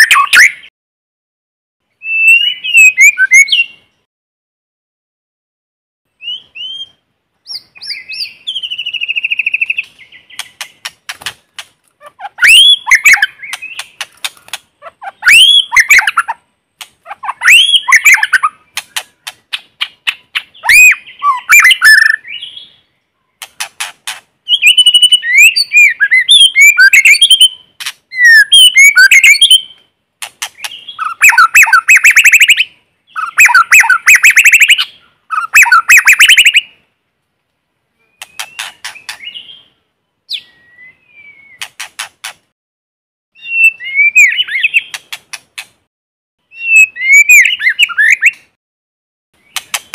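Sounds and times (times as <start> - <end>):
songbird singing: 0.0 - 0.7, 1.8 - 4.1, 6.1 - 36.9, 37.8 - 42.1, 43.4 - 45.8, 46.4 - 48.6, 49.4 - 49.9.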